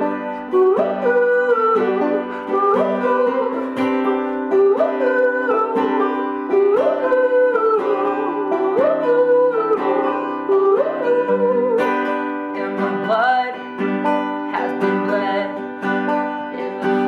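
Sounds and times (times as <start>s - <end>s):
acoustic guitar chords: 0.0s - 17.0s
banjo melody: 0.0s - 17.0s.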